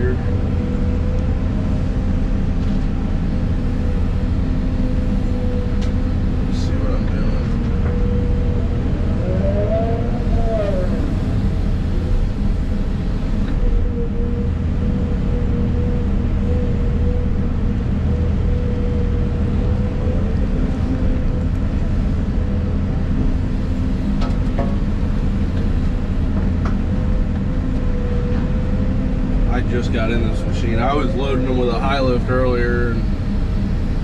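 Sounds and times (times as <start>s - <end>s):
excavator diesel engine drone: 0.0s - 34.0s
hydraulic whine: 0.0s - 34.0s.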